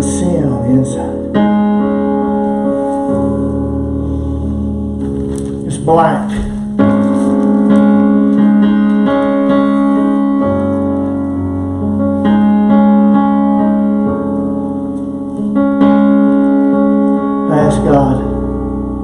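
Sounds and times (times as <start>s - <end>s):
keyboard playing slow chords: 0.0s - 19.0s.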